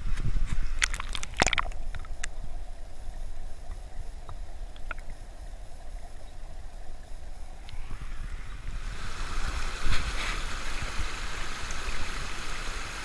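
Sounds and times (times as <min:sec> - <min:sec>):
muffled underwater river rumble: 0:01.4 - 0:13.0.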